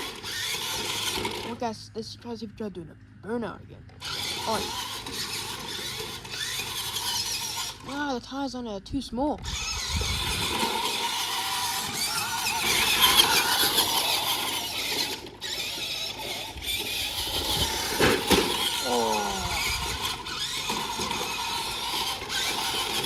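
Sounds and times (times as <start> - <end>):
toy truck motor and spinning tires: 0.0 - 2.5, 3.9 - 23.0.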